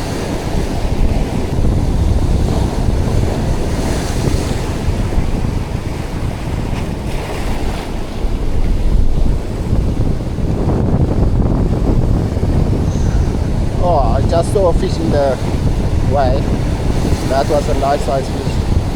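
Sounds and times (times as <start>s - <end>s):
surf breaking on beach: 0.0s - 18.9s
wind buffeting microphone: 0.0s - 18.9s.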